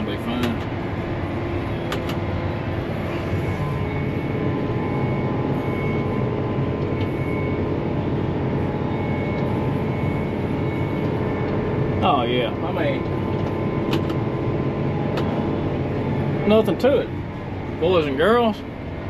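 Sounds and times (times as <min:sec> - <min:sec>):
diesel tractor engine droning: 0:00.0 - 0:19.0.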